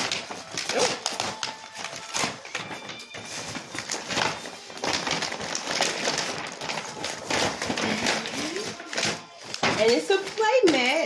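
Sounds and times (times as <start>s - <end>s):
wrapping paper tearing and crumpling: 0.0s - 11.0s.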